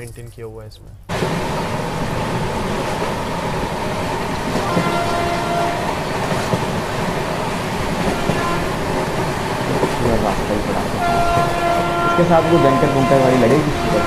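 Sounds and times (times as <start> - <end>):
train coach rumbling and rattling: 0.0 - 14.0.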